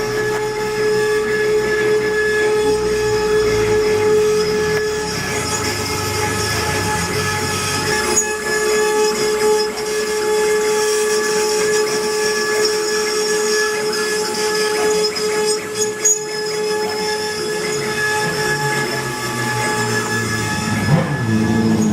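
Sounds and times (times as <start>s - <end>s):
router spindle whine: 0.0s - 21.9s.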